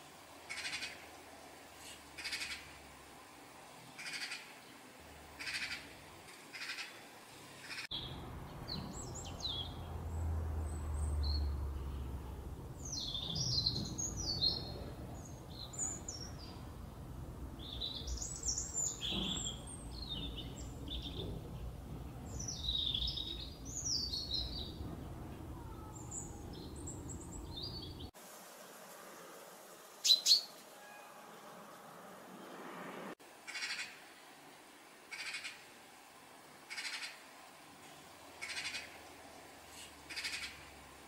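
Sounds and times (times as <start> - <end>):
songbirds chirping and twittering: 0.0 - 28.2, 29.9 - 31.8, 36.6 - 41.0.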